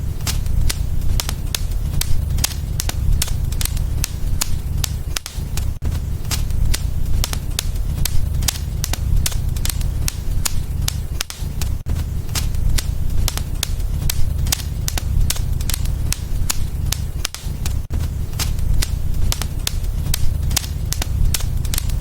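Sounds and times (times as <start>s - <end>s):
low rumble: 0.0s - 22.0s
wood fire crackling and popping: 0.0s - 22.0s.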